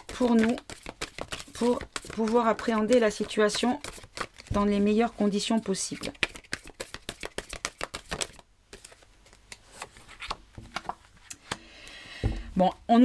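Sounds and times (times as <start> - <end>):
cards being shuffled: 0.0 - 11.6.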